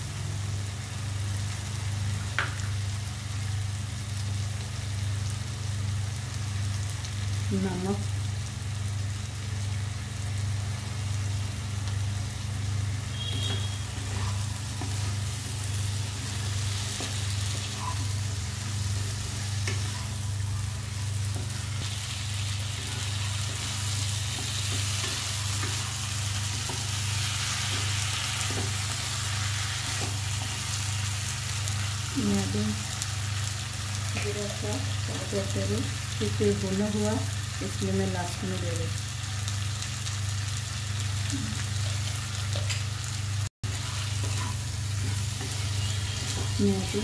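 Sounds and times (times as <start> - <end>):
vegetables sizzling in a pan: 0.0 - 47.0.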